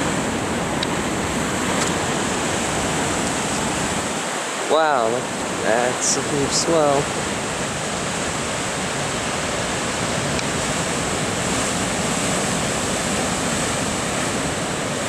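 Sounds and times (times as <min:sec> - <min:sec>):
surf crashing on rocks: 0:00.0 - 0:15.0
wind on microphone: 0:00.0 - 0:15.0.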